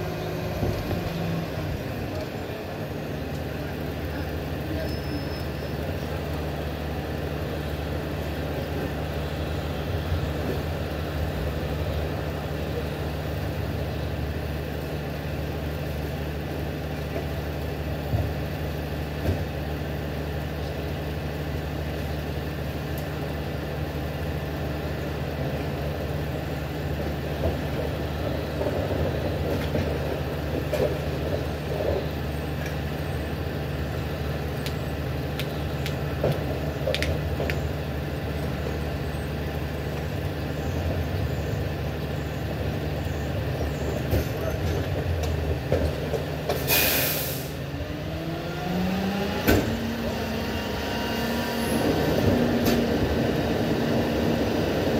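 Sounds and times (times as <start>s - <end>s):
garbage truck diesel engine idling: 0.0s - 47.9s.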